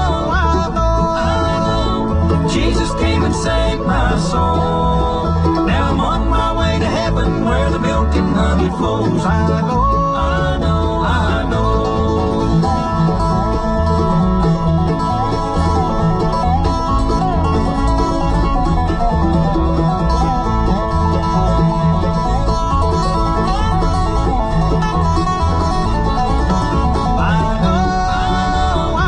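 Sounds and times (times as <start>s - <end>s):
country gospel song on car radio: 0.0s - 29.0s.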